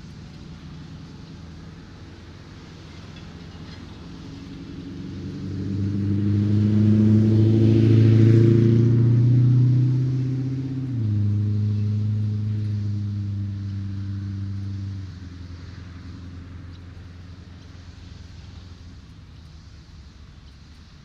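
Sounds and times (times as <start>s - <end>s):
faint background hiss: 0.0s - 21.0s
vehicle engine hum passing: 0.0s - 21.0s.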